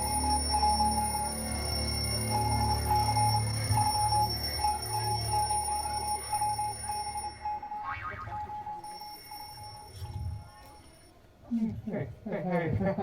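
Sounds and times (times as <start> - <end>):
rapid electronic beeping: 0.0 - 10.9.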